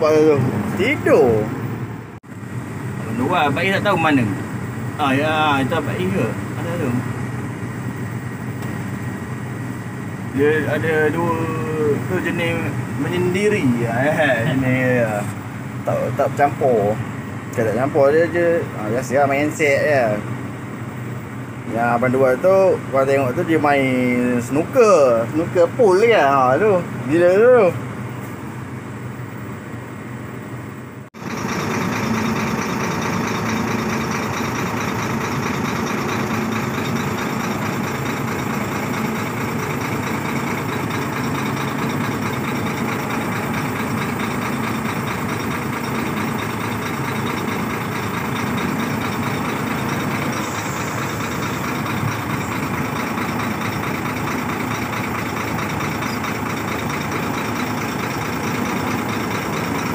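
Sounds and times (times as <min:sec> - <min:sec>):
heavy machinery diesel engine idling: 0:00.0 - 0:59.9.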